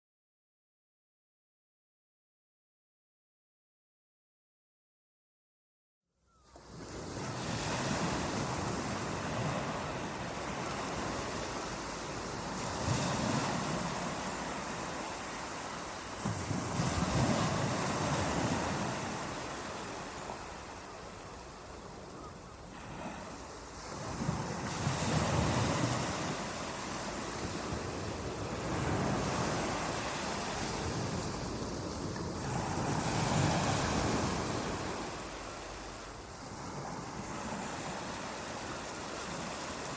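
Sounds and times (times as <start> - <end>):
waves breaking: 6.6 - 39.9.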